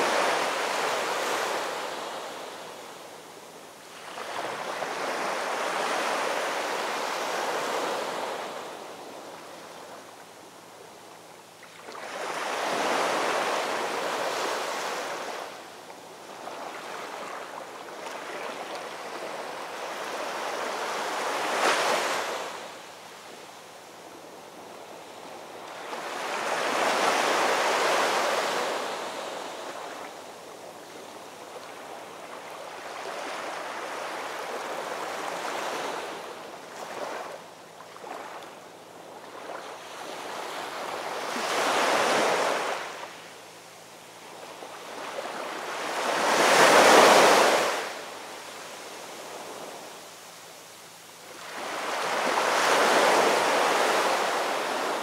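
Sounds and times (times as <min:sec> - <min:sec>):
small waves washing on beach: 0:00.0 - 0:11.0, 0:11.6 - 0:55.0.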